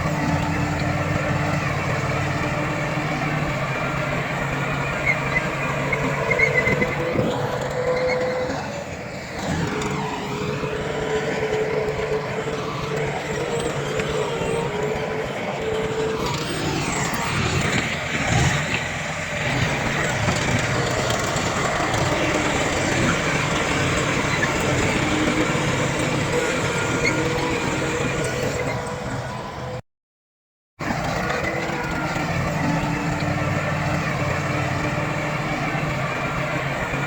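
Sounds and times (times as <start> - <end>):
heavy diesel machinery running: 0.0 - 29.8, 30.8 - 37.0
held whine: 0.0 - 29.8.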